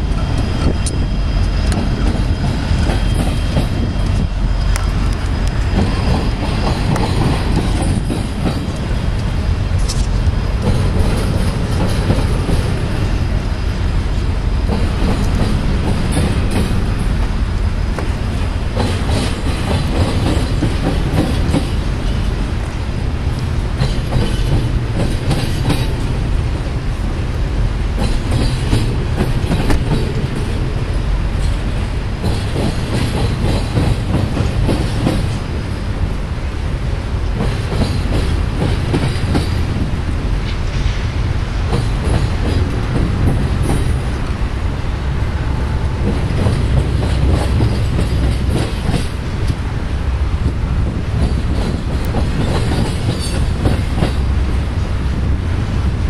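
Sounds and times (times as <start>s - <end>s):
wheels clacking over rail joints: 0.0s - 13.2s, 14.2s - 26.8s, 27.9s - 35.6s, 37.2s - 44.4s, 45.5s - 49.6s, 50.4s - 54.6s
train rumbling past: 0.0s - 56.0s.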